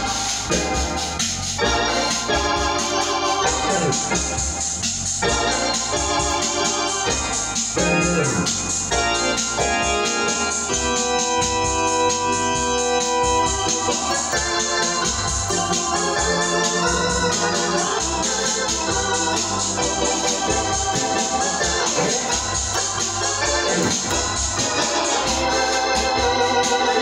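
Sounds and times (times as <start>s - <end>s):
organ chords and bass line: 0.0s - 27.0s.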